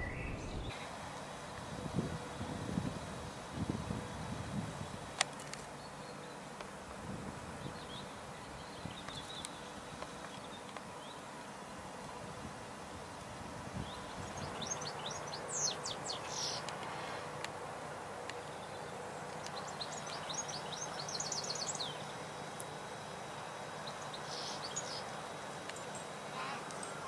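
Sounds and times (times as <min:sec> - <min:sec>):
songbirds chirping: 0:00.0 - 0:01.8, 0:05.6 - 0:12.2, 0:13.3 - 0:27.0
outdoor background hiss: 0:00.0 - 0:27.0.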